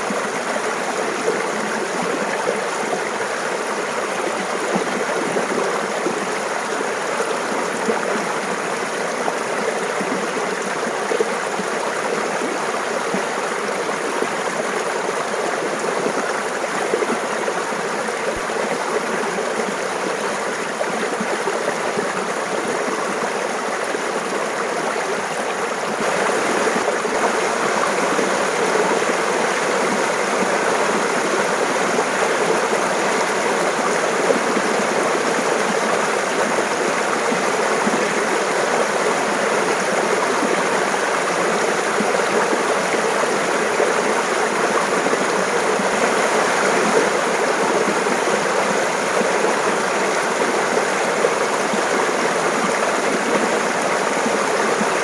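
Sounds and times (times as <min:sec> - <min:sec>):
mountain stream babbling: 0:00.0 - 0:55.0.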